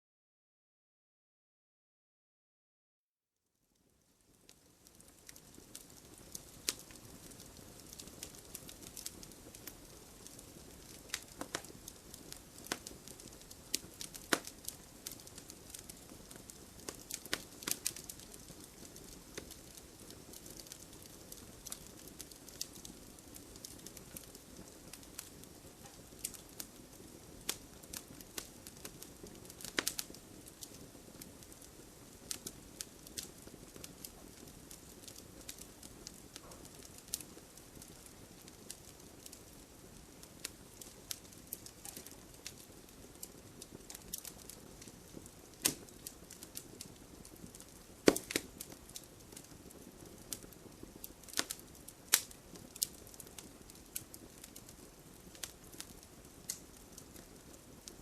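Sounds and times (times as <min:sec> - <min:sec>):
wood fire crackling and popping: 0:03.8 - 0:58.0
hiss of flames: 0:05.2 - 0:57.6.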